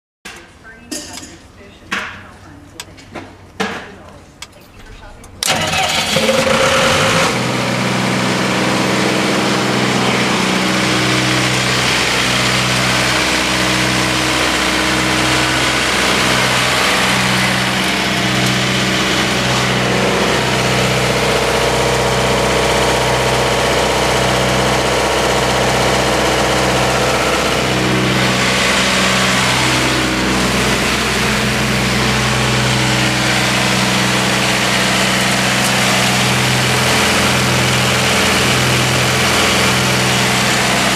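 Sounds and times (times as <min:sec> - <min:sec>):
diesel generator engine running: 0:00.4 - 0:40.9.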